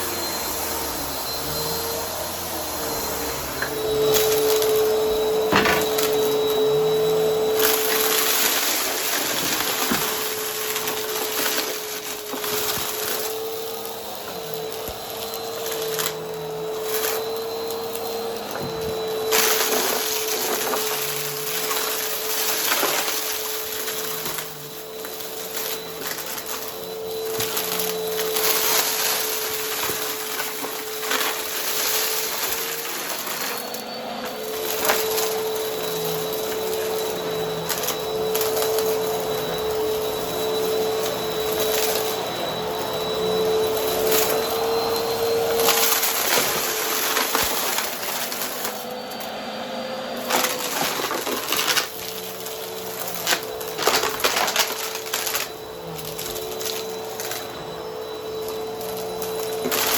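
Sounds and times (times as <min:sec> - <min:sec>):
vacuum crunching debris: 0:00.0 - 0:49.4, 0:50.0 - 0:59.9
vacuum cleaner motor whine: 0:00.0 - 0:59.9.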